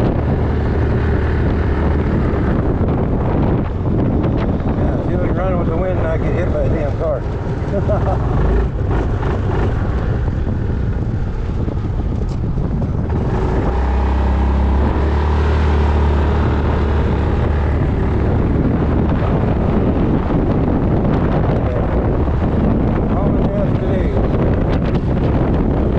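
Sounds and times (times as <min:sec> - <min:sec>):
scooter engine running: 0:00.0 - 0:04.8, 0:07.2 - 0:25.9
wind buffeting microphone: 0:00.0 - 0:25.9.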